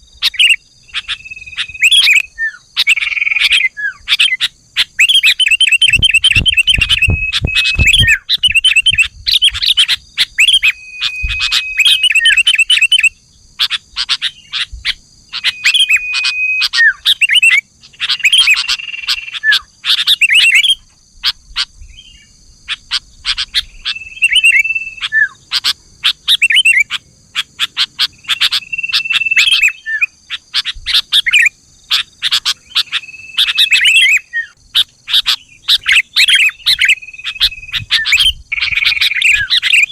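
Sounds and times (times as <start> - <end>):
bulbuls chirping and whistling: 0.0 - 39.9
steady high-pitched hum: 0.0 - 39.9.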